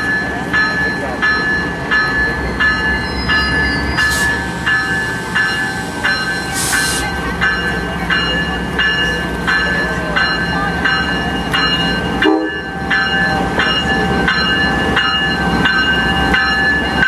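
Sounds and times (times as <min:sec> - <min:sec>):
locomotive bell ringing: 0:00.0 - 0:17.0.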